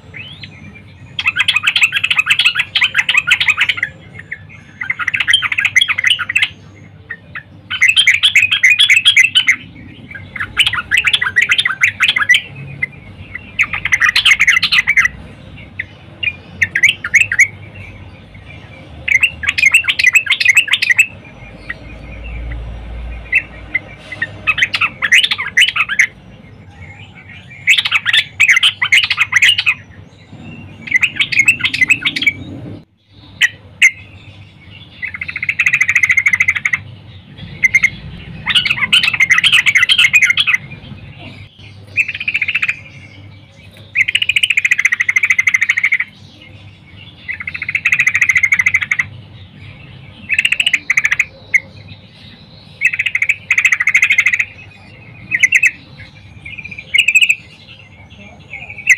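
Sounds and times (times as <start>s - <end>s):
bird chattering song: 0.0s - 58.9s.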